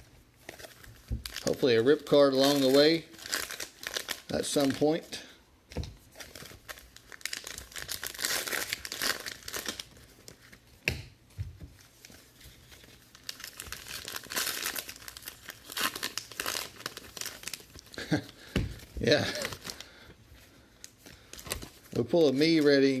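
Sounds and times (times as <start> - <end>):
plastic wrapping crinkling: 0.0 - 5.2, 5.8 - 10.8, 11.7 - 23.0.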